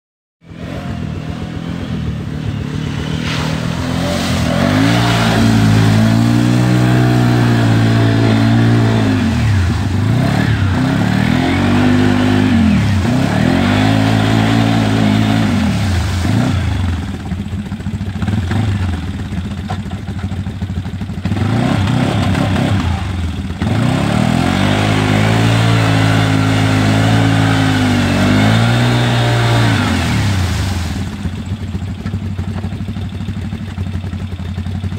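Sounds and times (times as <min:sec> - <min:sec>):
atv engine revving: 0:00.4 - 0:34.9
wheels churning through mud: 0:00.5 - 0:34.9.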